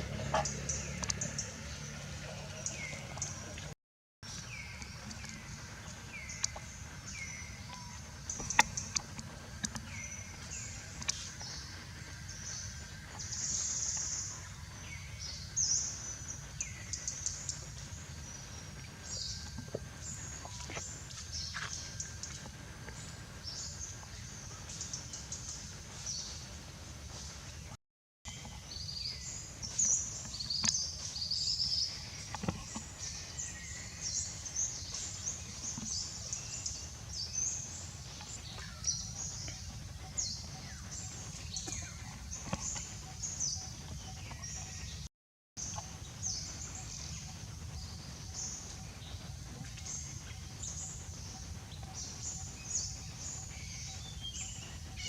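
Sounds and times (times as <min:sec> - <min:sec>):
small birds chirping: 0:00.0 - 0:27.7, 0:28.3 - 0:55.0
low outdoor rumble: 0:00.0 - 0:55.0.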